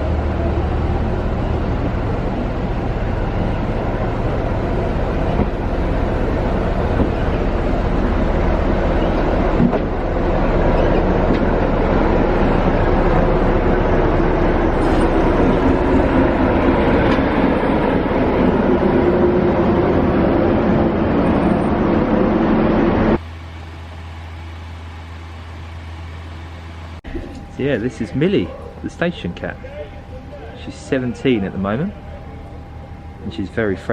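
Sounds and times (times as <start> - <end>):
locomotive engine and rail noise: 0.0 - 33.9
low hum: 0.0 - 33.9.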